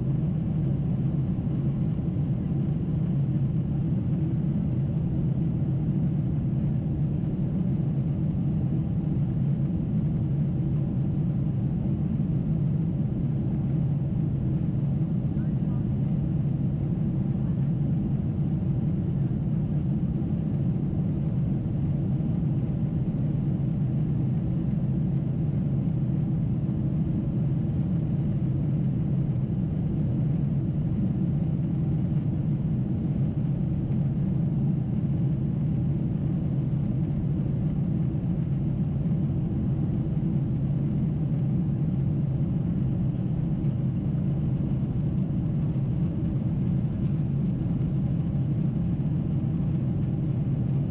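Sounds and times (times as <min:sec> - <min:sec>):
jet cabin low rumble: 0:00.0 - 0:50.9.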